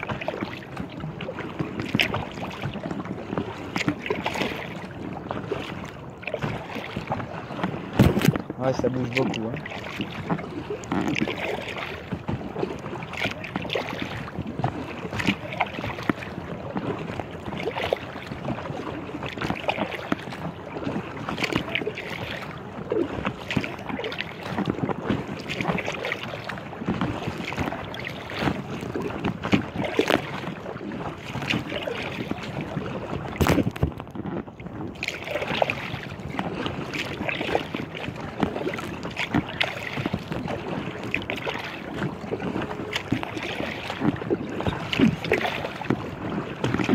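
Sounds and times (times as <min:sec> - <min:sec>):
water slapping against kayak hull: 0:00.0 - 0:46.9.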